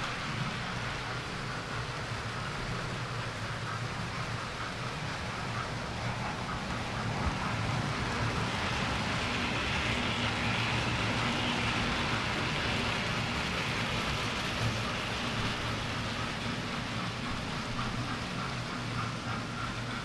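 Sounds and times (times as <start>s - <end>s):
model train wheels on rails: 0.0s - 20.0s.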